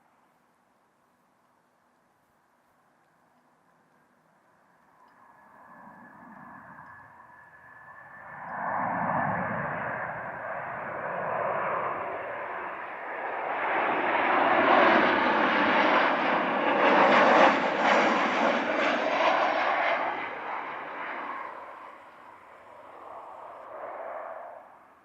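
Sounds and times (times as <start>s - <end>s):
jet aircraft passing: 4.8s - 25.0s.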